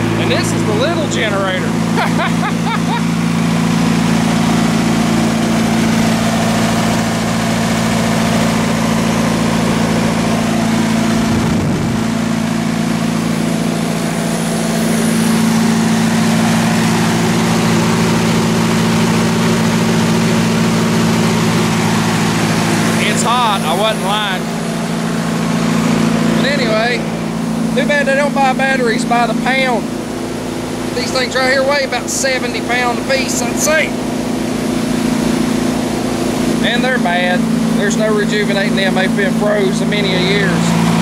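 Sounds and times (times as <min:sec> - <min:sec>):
diesel generator running: 0:00.0 - 0:41.0.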